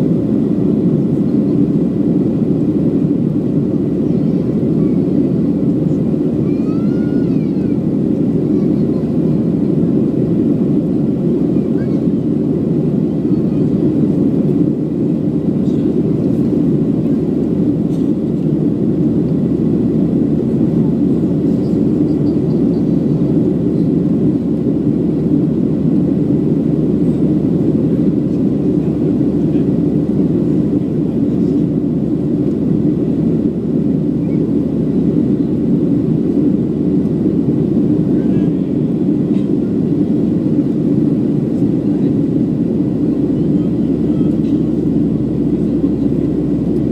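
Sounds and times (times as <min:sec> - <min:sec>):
jet engine and airflow rush: 0:00.0 - 0:46.9.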